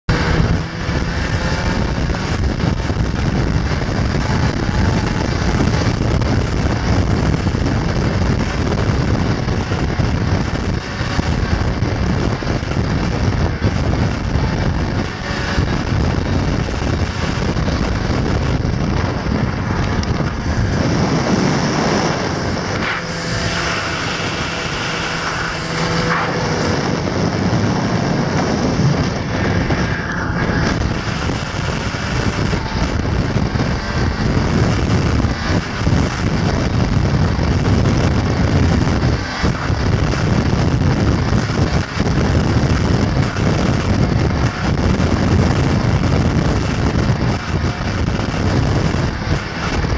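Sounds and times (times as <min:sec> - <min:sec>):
snowmobile engine running: 0:00.0 - 0:49.9
wind rushing over microphone: 0:00.0 - 0:49.9.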